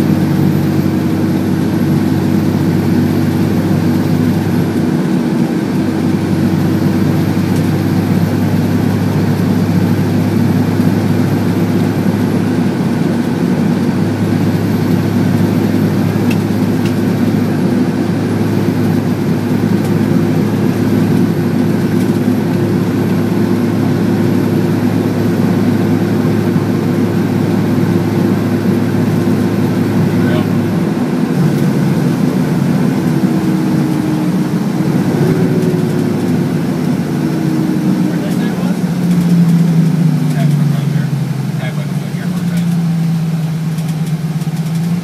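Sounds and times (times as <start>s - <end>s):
diesel engine drone in cab: 0.0s - 45.0s.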